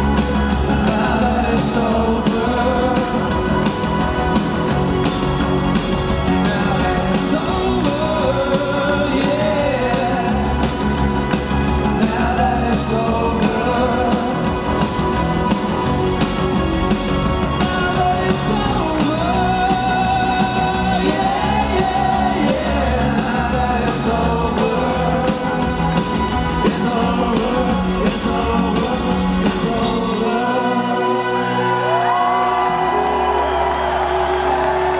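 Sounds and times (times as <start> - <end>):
man singing lead vocals: 0.0 - 5.0, 6.2 - 15.1, 17.5 - 33.0
live rock band playing: 0.0 - 34.9.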